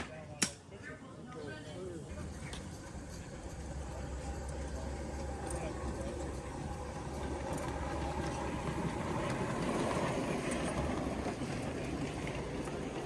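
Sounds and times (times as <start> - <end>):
train wheels rumbling on rail: 2.1 - 13.0.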